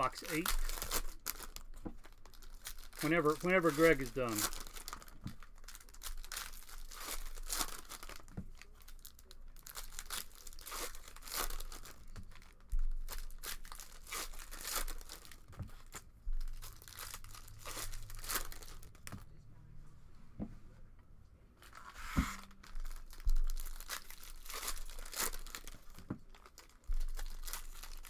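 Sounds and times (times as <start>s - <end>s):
foil packs tearing and crinkling: 0.0s - 19.1s, 22.4s - 28.0s.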